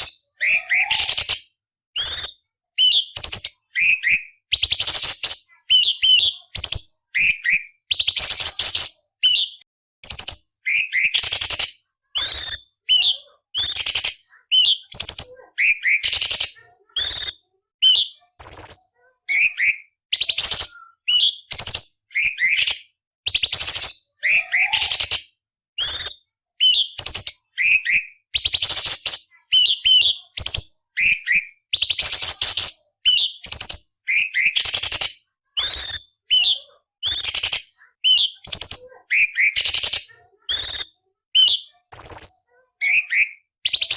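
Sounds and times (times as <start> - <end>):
bird singing harsh and whistled notes: 0.0 - 43.9.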